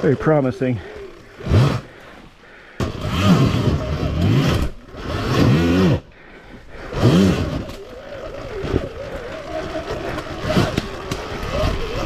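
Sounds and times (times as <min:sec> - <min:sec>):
rough scrapy trail noise: 0:00.0 - 0:12.0
electric motor whining: 0:00.7 - 0:06.1, 0:06.7 - 0:12.0.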